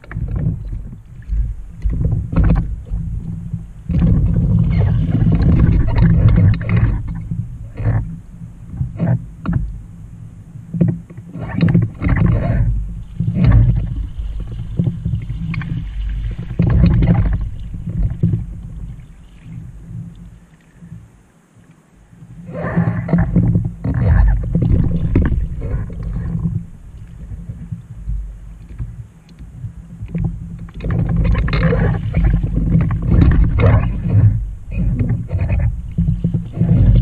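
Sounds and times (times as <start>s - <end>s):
low rumble: 0.0s - 21.2s, 22.0s - 37.0s
water splashing against kayak hull: 0.0s - 37.0s.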